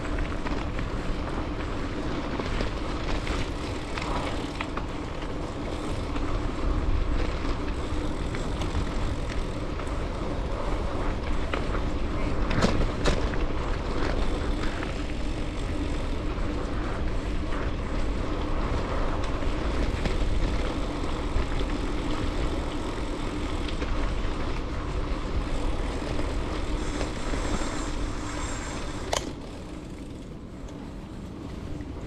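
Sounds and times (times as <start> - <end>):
bike rattles and clicks: 0.0 - 32.0
bike tyres rolling over dirt: 0.0 - 32.0
wind rumbling on microphone: 0.0 - 32.0.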